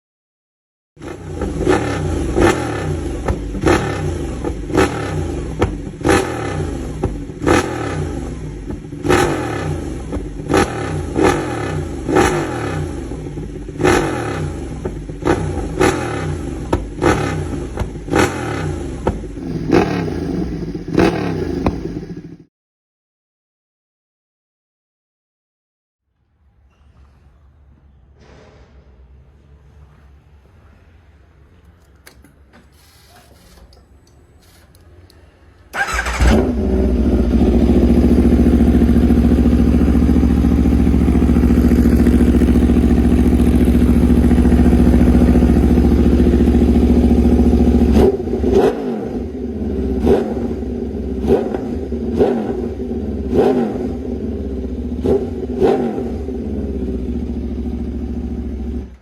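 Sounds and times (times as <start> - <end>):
motorcycle throttle blips: 1.0 - 22.4, 31.6 - 59.0
motorcycle engine starting and idling: 1.0 - 22.5, 31.6 - 59.0.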